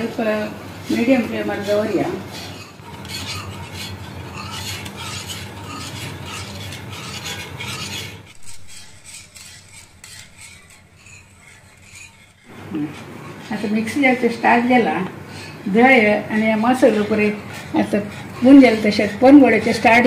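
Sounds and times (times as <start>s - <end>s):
steady low hum: 0.0s - 20.0s
whisk scraping in a steel pan: 0.0s - 20.0s.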